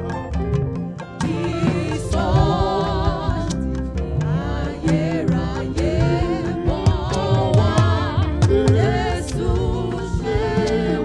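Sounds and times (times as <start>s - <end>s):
band with bass and drums: 0.0s - 10.9s
gospel singing voices: 1.1s - 11.0s.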